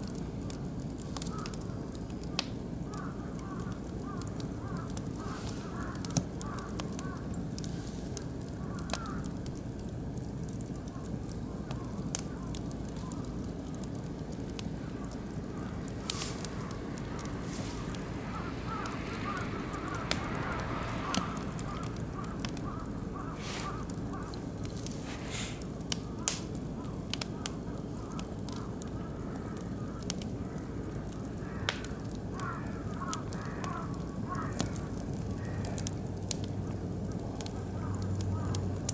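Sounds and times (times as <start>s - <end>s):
rush of flames: 0.0s - 38.9s
wood fire pops and crackles: 0.0s - 38.9s.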